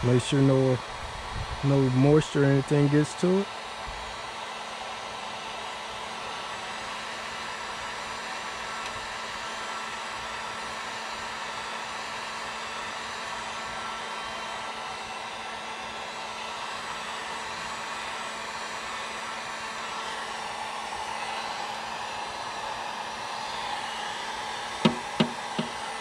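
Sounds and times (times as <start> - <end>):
heat gun whirring: 0.0 - 26.0.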